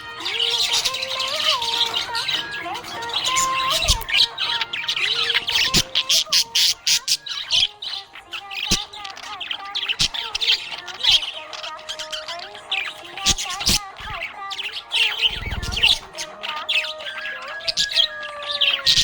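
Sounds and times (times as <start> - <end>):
budgerigars chirping: 0.0 - 19.0.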